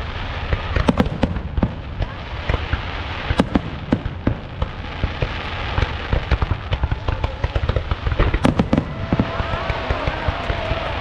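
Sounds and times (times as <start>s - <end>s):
fireworks bangs and crackles: 0.0s - 11.0s
rumble of fireworks bursts: 0.0s - 11.0s.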